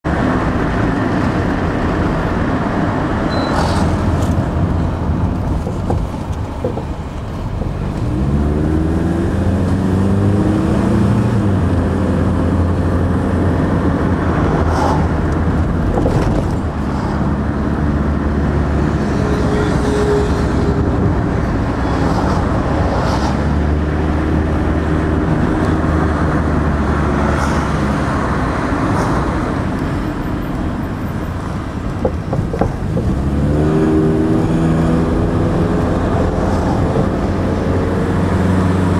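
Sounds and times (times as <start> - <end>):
car engine: 0.0 - 38.9
road noise inside car: 0.0 - 38.9.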